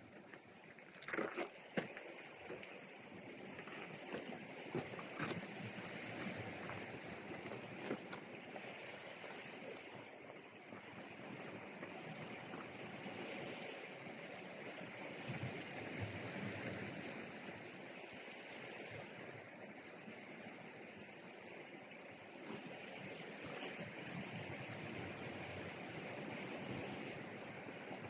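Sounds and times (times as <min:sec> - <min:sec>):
sea surf washing on shore: 0:00.0 - 0:28.0.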